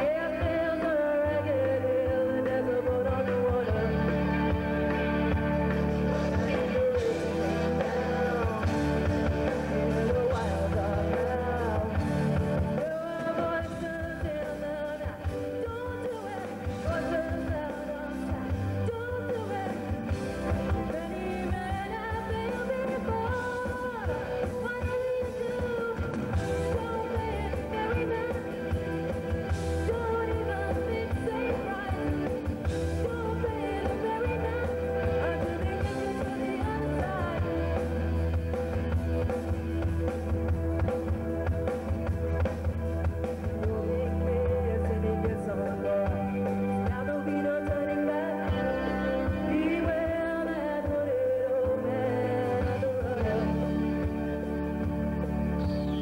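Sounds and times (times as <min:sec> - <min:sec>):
bass notes: 0:00.0 - 0:56.0
drum kit: 0:00.0 - 0:56.0
electric guitars: 0:00.0 - 0:56.0
keyboards: 0:00.0 - 0:56.0
person singing: 0:00.0 - 0:56.0.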